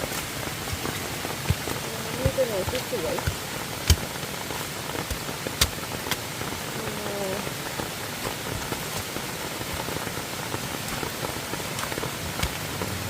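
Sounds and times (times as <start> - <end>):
stream water hissing: 0.0 - 13.0.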